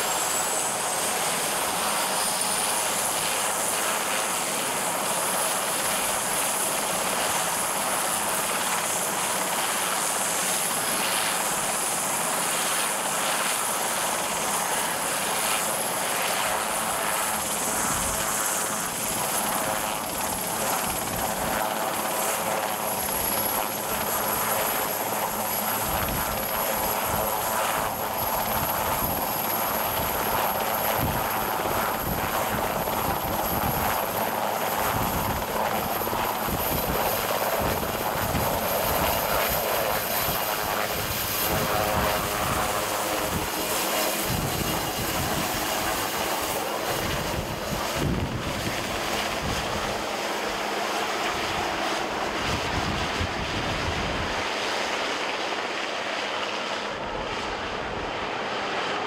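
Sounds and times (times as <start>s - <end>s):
helicopter rotor and turbine whine: 0.0s - 59.0s.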